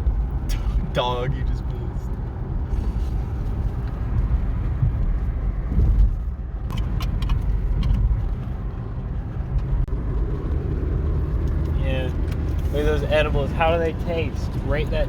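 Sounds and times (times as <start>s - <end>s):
car in motion rumble: 0.0s - 15.0s.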